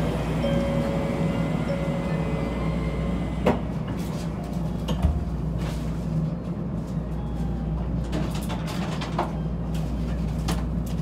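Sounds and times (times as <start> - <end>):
train carriage low hum: 0.0 - 11.0.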